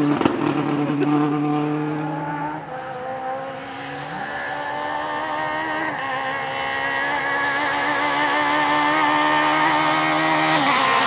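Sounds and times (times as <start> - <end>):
rally car engines passing: 0.0 - 11.0.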